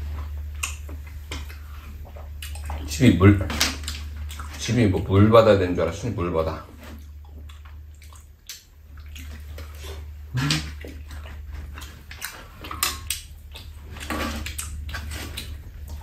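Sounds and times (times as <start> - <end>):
chewing and lip smacking: 0.0 - 3.0, 3.6 - 4.7, 6.8 - 16.0
steady low hum: 0.0 - 16.0.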